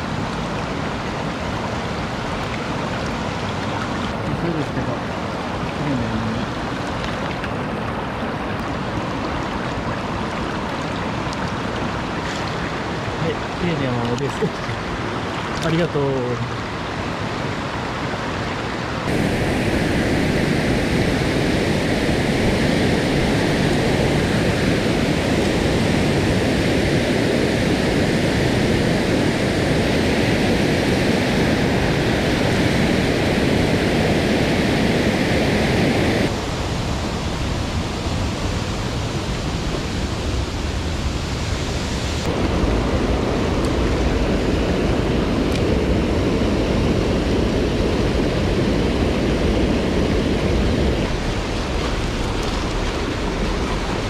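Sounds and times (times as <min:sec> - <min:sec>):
water rushing over weir: 0:00.0 - 0:54.0.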